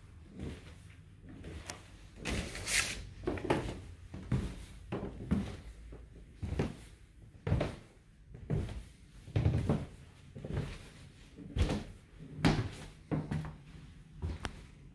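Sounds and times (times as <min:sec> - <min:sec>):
footsteps on carpeted stairs: 0:00.2 - 0:02.6, 0:03.2 - 0:14.7.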